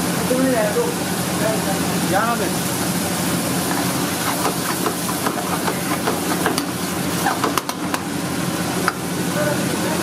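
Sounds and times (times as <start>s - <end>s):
curry bubbling and hissing: 0.6s - 9.8s.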